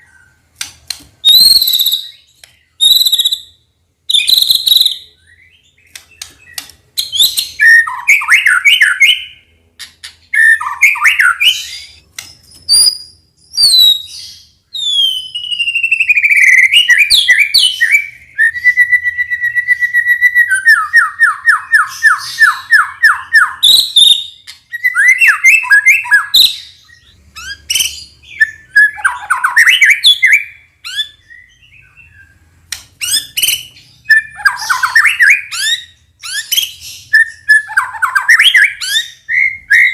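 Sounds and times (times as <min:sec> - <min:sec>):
songbird singing whistled phrases: 0:01.2 - 0:09.5, 0:10.1 - 0:39.9.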